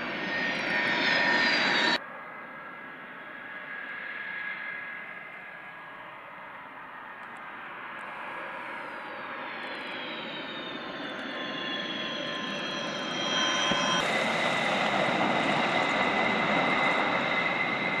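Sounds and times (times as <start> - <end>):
jet engine whine: 0.0 - 18.0.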